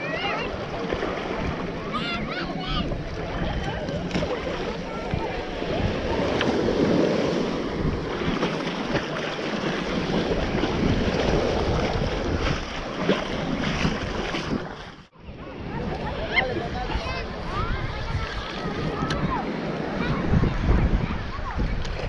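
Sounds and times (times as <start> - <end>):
ocean surf washing on beach: 0.0 - 21.9
wind buffeting microphone: 0.4 - 22.0.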